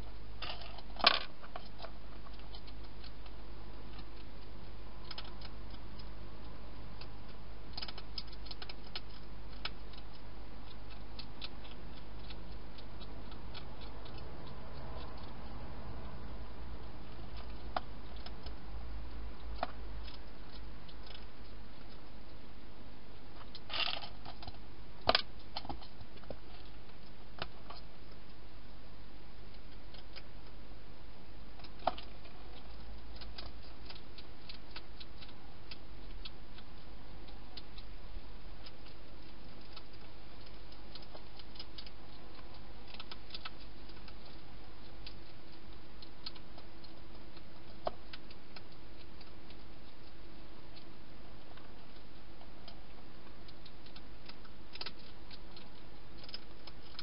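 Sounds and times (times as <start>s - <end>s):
hedgehog eating clicks and crunches: 0.0s - 57.0s
low steady hum: 0.0s - 57.0s.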